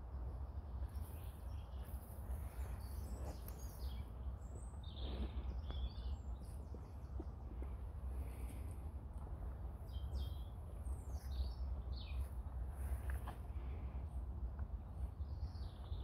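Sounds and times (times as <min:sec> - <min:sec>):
birds chirping: 0:00.0 - 0:16.0
steady low rumble: 0:00.0 - 0:16.0.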